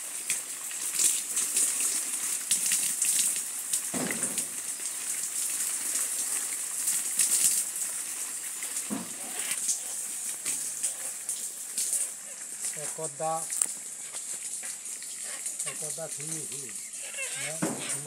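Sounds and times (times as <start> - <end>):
crackly high hiss: 0.0 - 18.0
water dripping and trickling: 0.0 - 18.0.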